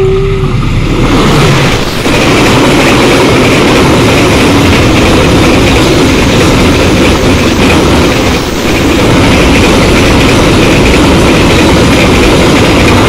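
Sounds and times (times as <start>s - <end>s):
train wheels rushing on rails: 0.0s - 13.0s.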